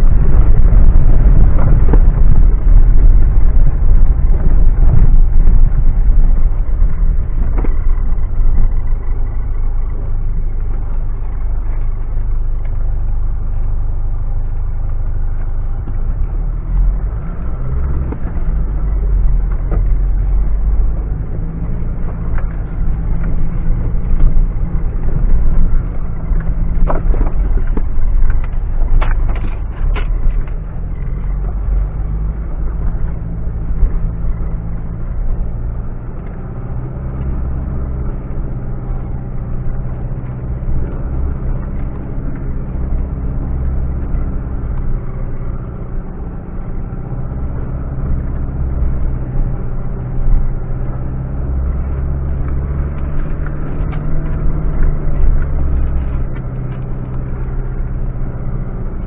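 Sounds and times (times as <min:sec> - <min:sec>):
car engine drone: 0:00.0 - 0:59.0.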